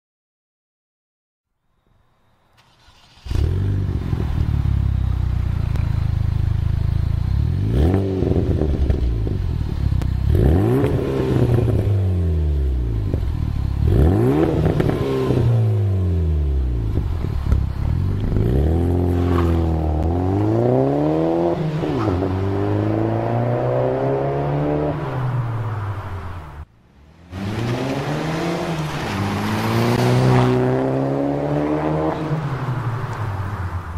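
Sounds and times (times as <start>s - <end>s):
car engine revving: 2.6s - 33.7s
car accelerating: 2.6s - 33.9s.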